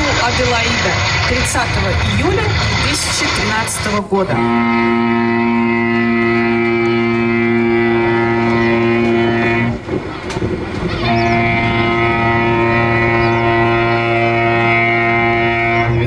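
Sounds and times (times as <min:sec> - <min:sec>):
rushing noise: 0:00.0 - 0:05.0, 0:06.2 - 0:16.0
deep ship's horn: 0:00.0 - 0:16.0.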